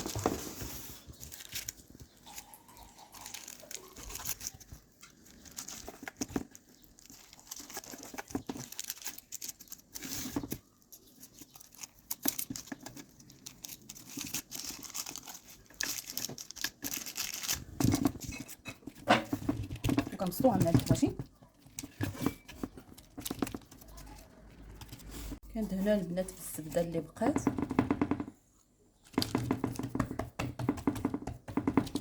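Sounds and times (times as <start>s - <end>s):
hands kneading dough: 0.0s - 27.4s, 28.2s - 32.0s.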